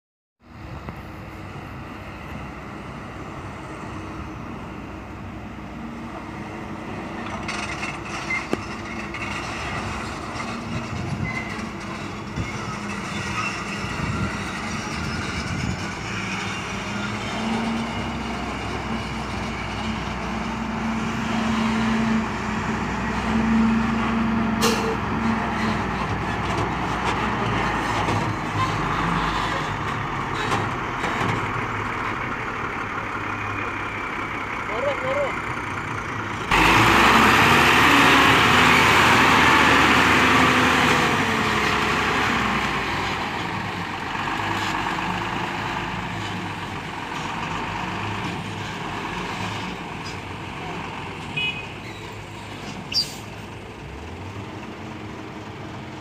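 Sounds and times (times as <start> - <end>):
diesel truck driving past: 0.4 - 56.0.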